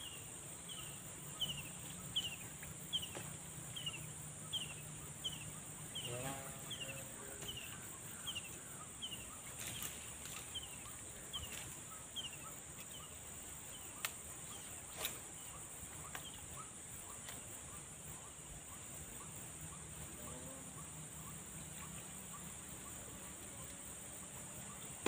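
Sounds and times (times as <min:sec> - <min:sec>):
steady high hiss: 0:00.0 - 0:25.0.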